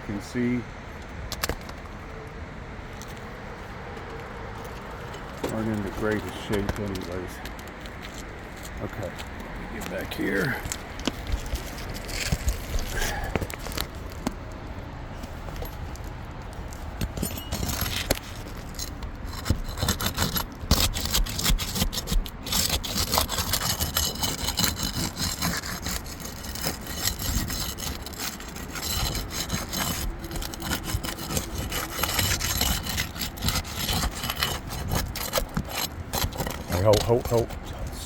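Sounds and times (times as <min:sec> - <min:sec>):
scraping on roof shingles: 0:04.2 - 0:14.6, 0:15.2 - 0:38.0.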